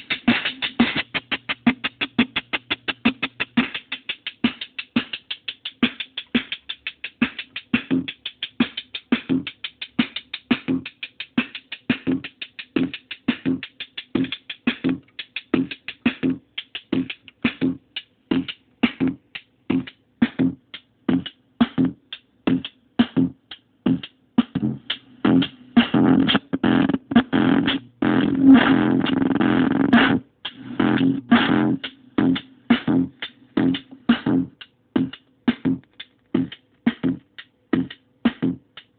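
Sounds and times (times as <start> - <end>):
distorted synth drum pattern: 0.0 - 38.9.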